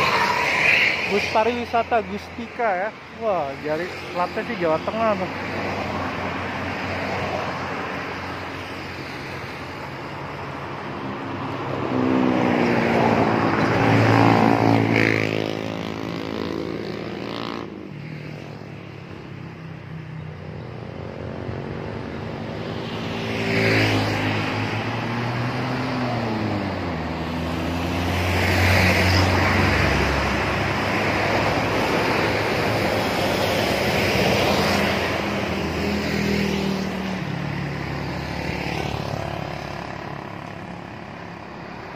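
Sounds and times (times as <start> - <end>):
buses and trucks passing: 0.0 - 41.9
tyre and road noise: 0.0 - 41.9.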